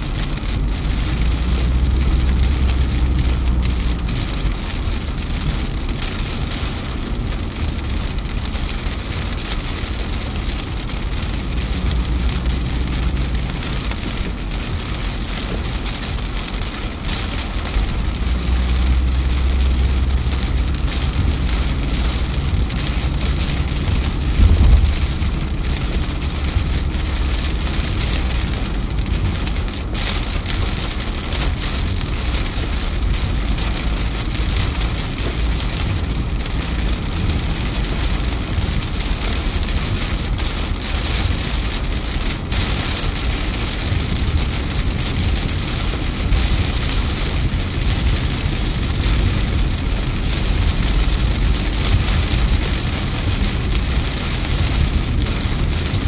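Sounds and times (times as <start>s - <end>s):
heavy rain on car roof: 0.0s - 56.0s
tyres rumbling on wet road: 0.0s - 56.0s.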